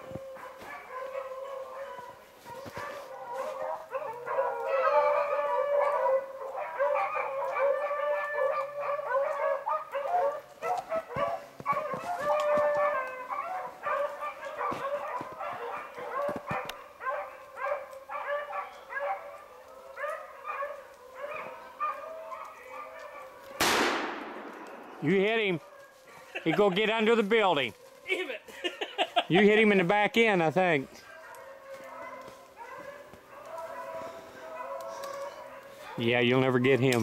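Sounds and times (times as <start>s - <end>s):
hounds baying: 0.0s - 23.6s, 24.4s - 36.9s.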